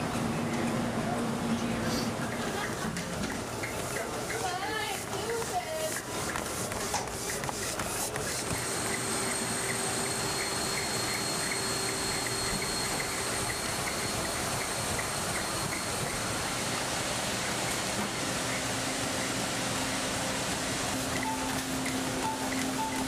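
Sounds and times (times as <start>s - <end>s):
treadmill belts and motors whirring: 0.0s - 23.0s.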